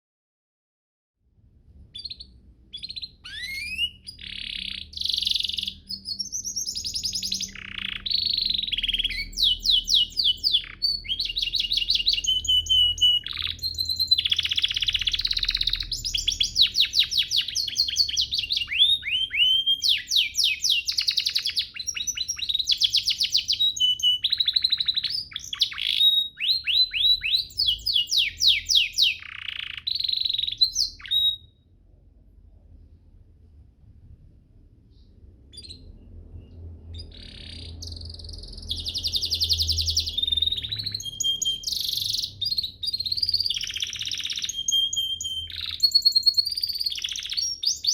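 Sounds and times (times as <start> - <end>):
canary singing trills: 1.8 - 31.6, 34.9 - 47.9.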